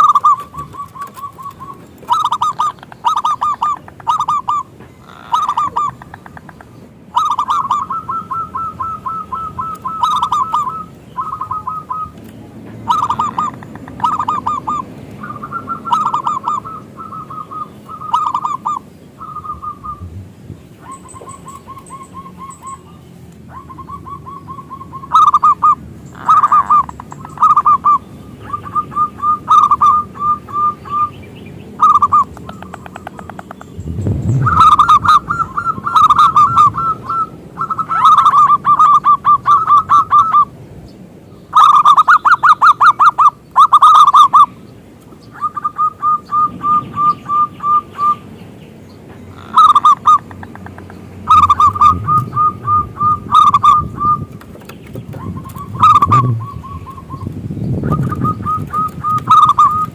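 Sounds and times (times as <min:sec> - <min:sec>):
dove singing staccato coos: 0:00.0 - 0:59.9.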